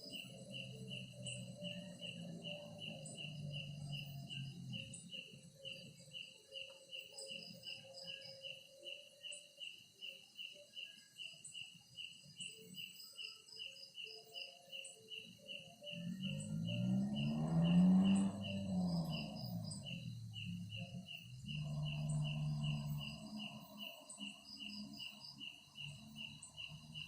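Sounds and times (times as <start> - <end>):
faint cricket chirping: 0.0 - 27.0.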